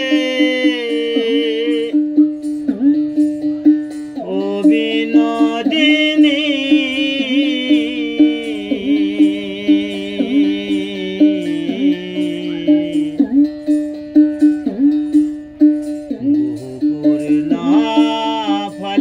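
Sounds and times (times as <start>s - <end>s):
held drone note: 0.0s - 19.0s
plucked string instrument: 0.0s - 19.0s
wavering high melody: 0.0s - 19.0s.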